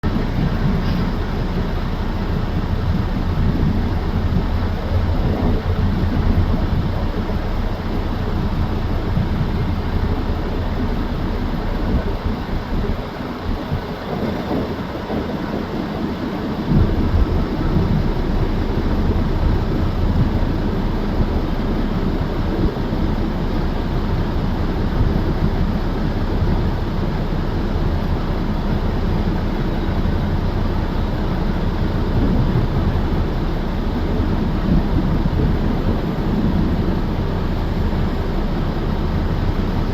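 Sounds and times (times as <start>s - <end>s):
freight train running: 0.0s - 39.9s.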